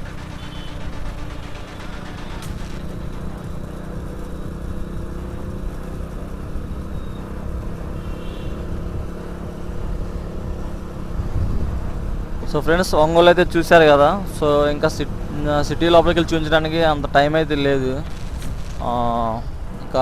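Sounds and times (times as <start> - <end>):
motorcycle engine running: 0.0 - 20.0
road noise: 0.0 - 20.0.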